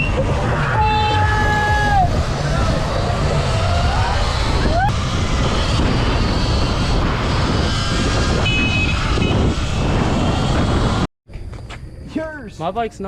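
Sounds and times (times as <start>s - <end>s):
wind buffeting microphone: 0.0s - 11.1s.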